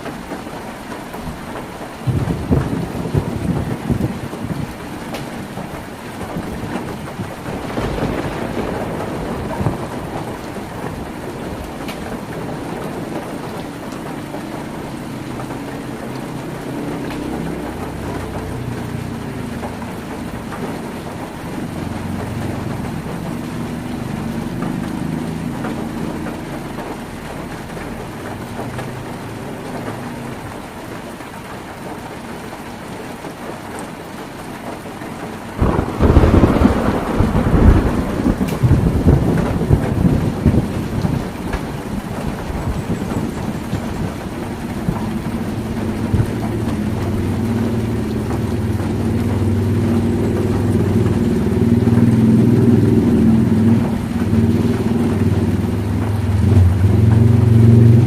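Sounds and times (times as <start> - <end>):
heavy rain on a tin roof: 0.0 - 58.0
distant thunder rumble: 0.1 - 31.0, 35.2 - 58.0.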